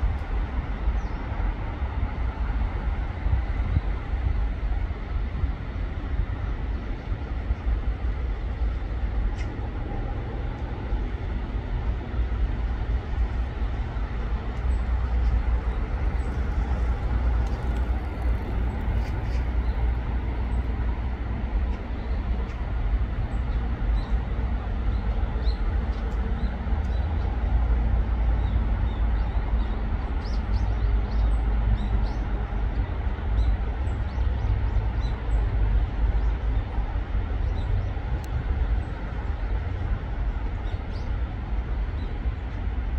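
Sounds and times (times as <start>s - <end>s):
low rumble with hiss: 0.0s - 42.9s.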